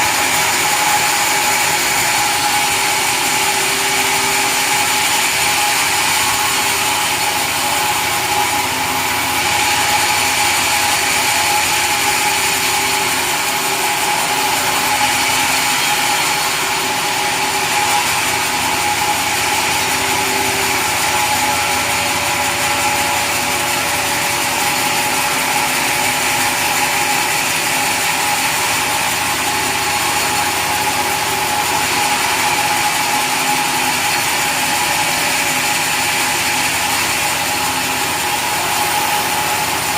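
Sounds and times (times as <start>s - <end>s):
machine noise: 0.0s - 39.9s
sawmill saw whining: 0.0s - 39.9s.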